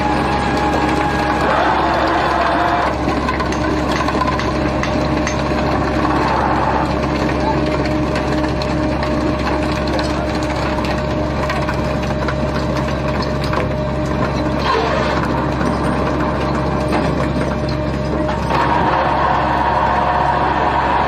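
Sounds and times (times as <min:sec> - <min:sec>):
clanks and rattles: 0:00.0 - 0:19.9
boat machinery droning: 0:00.0 - 0:21.0.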